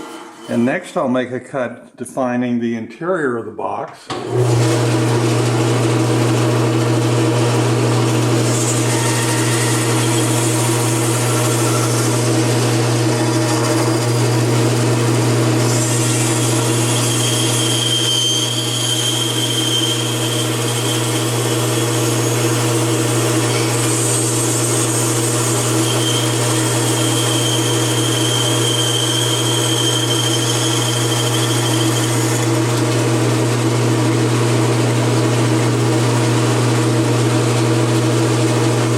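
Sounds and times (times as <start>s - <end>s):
bandsaw blade whine: 4.1s - 37.8s
bandsaw cutting wood: 4.1s - 37.8s.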